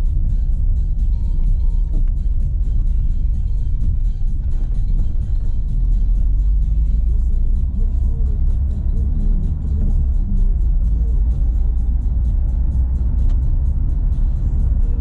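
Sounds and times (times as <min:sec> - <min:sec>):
tyres rumbling on dirt road: 0:00.0 - 0:15.0.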